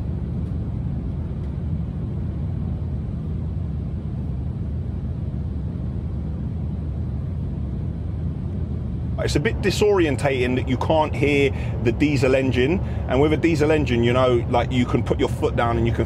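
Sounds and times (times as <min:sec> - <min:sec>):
road and wind noise in truck cab: 0:00.0 - 0:16.0.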